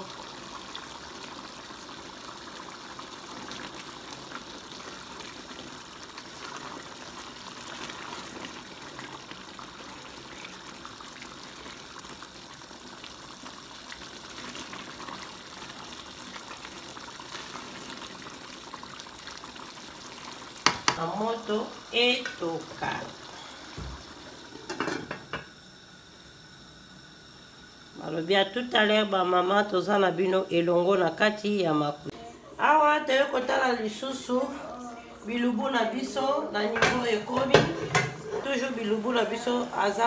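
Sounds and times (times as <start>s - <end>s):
pot boiling and bubbling: 0.0s - 32.2s, 35.2s - 40.0s.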